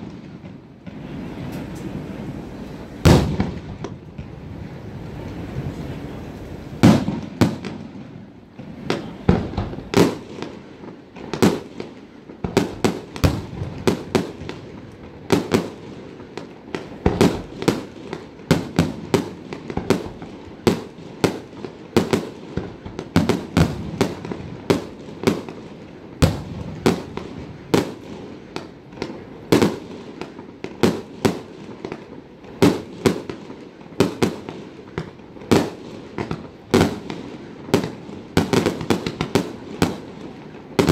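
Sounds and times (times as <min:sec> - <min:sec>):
fireworks bursting with sharp bangs: 0:00.0 - 0:40.9.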